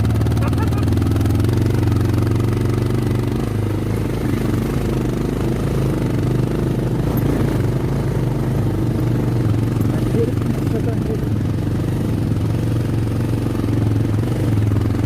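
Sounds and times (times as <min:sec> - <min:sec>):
engine clatter: 0:00.0 - 0:15.0
motorcycle engine running: 0:00.0 - 0:15.0.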